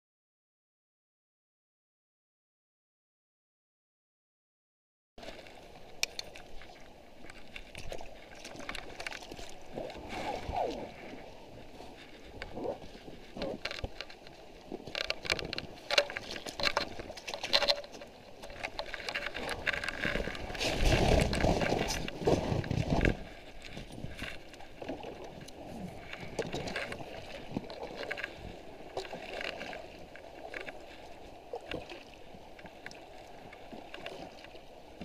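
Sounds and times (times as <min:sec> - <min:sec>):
paddle splashing in water: 0:05.2 - 0:35.0.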